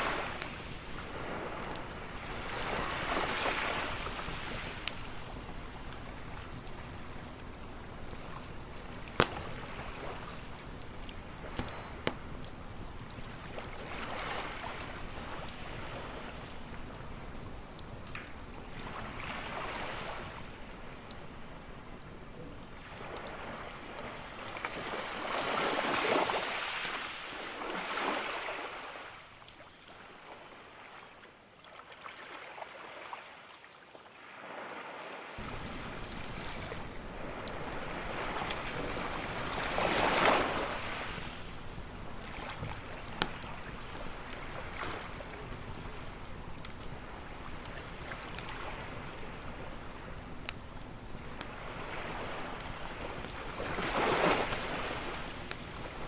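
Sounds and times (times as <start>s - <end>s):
campfire crackling and popping: 0.0s - 30.4s, 35.4s - 56.0s
ocean waves washing on beach: 0.0s - 56.0s.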